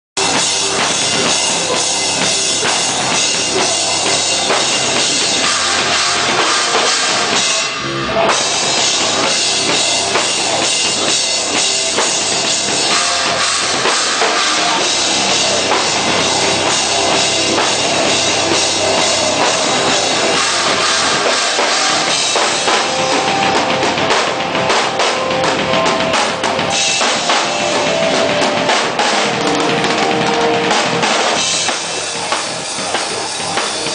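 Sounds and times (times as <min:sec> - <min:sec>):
drum kit: 0:00.2 - 0:33.9
hardcore band playing live: 0:00.2 - 0:33.9.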